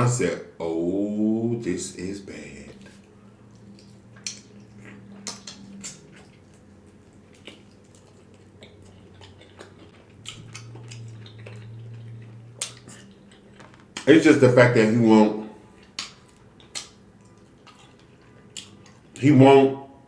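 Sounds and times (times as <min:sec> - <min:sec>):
faint steady low hum: 0:00.0 - 0:20.0.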